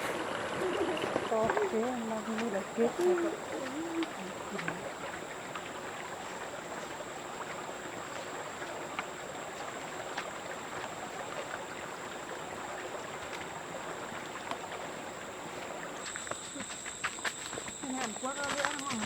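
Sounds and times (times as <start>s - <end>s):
thin high whine: 0.0s - 19.0s.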